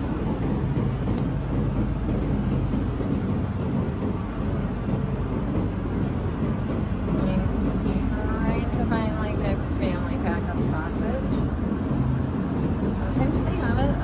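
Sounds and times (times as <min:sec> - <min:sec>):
supermarket background rumble: 0:00.0 - 0:14.0.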